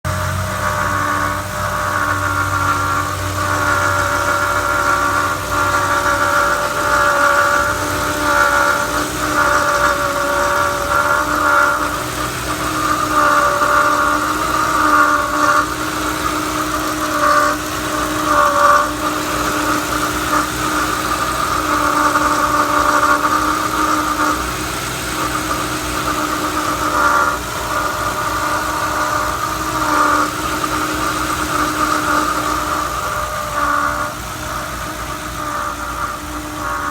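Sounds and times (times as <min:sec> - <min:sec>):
car engine idling: 0:00.0 - 0:36.9
water pump high whine: 0:00.0 - 0:36.9.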